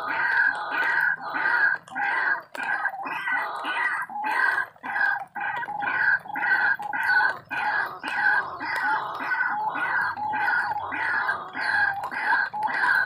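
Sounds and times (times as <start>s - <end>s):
waterhen croaking call: 0.0s - 13.0s.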